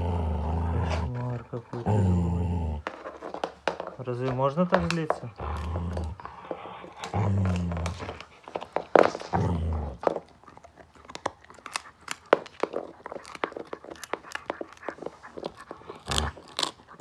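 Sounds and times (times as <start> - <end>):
dog gnawing on a bone: 0.0 - 17.0
dog growling: 0.0 - 17.0.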